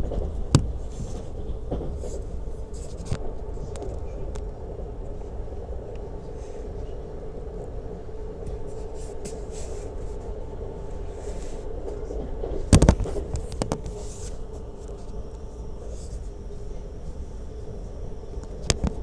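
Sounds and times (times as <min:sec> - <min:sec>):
electric train rumbling and humming: 0:00.0 - 0:19.0.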